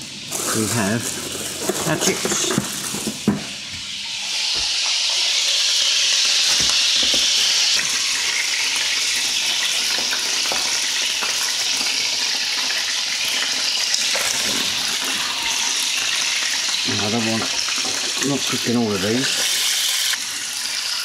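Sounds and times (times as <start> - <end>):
chips frying with sizzling hiss: 0.0 - 21.0.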